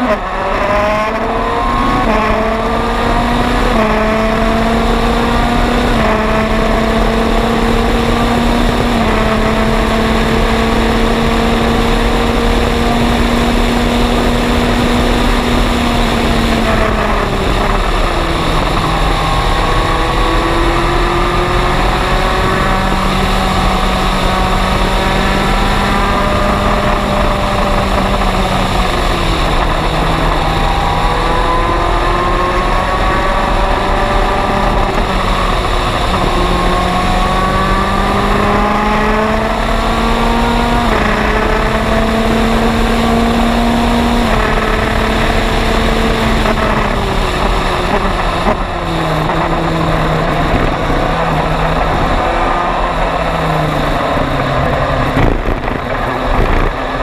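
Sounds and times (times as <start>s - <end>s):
race car engine at full throttle: 0.0s - 57.0s
wind rush: 0.0s - 57.0s.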